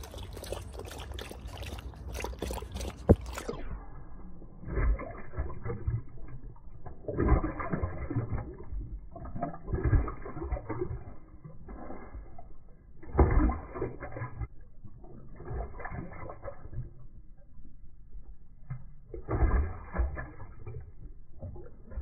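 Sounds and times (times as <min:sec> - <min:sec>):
dog lapping water slowed down: 0:00.0 - 0:22.0.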